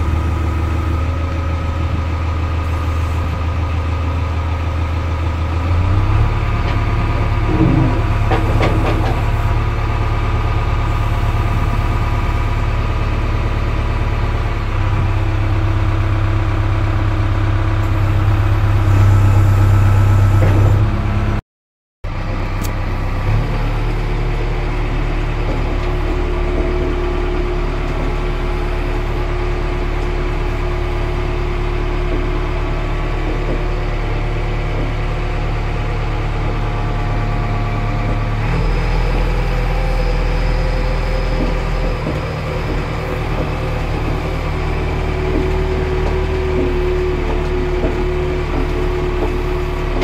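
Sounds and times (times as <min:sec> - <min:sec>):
diesel engine running: 0:00.0 - 0:21.4, 0:22.0 - 0:50.0.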